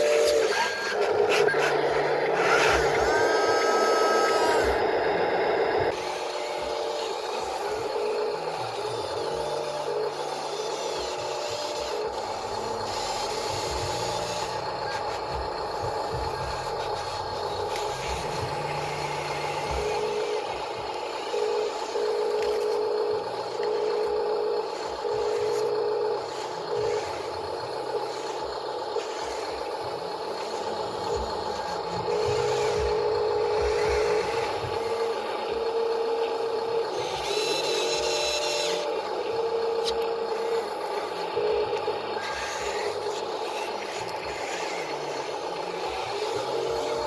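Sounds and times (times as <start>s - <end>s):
small electric motor whine: 0.0s - 47.0s.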